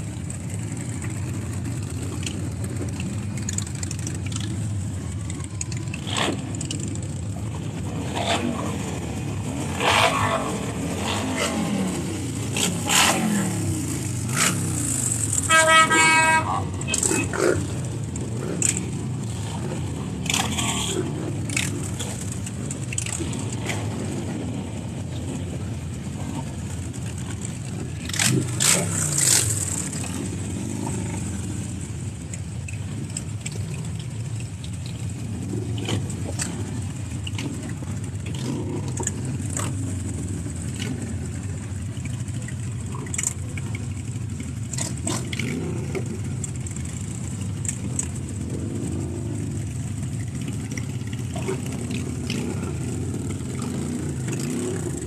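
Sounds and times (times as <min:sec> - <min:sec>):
car engines running: 0:00.0 - 0:55.0.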